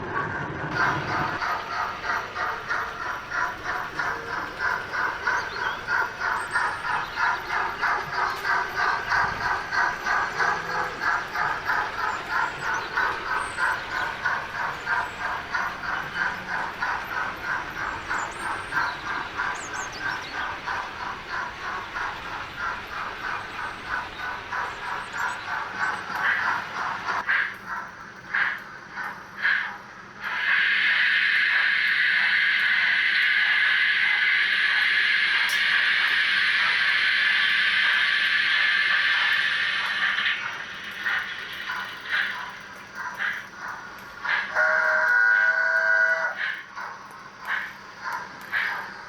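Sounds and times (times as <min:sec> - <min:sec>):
model steam locomotive chuffs: 0:00.0 - 0:49.0.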